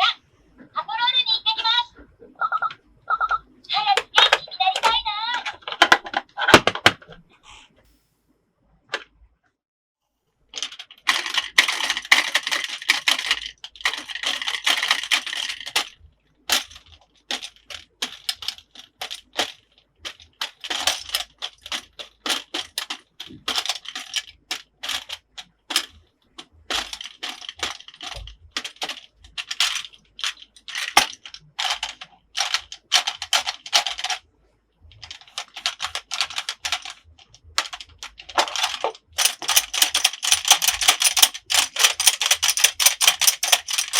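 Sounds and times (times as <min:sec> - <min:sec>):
plastic toy pieces clattering: 0:03.8 - 0:07.2, 0:10.6 - 0:34.2, 0:34.9 - 0:43.9.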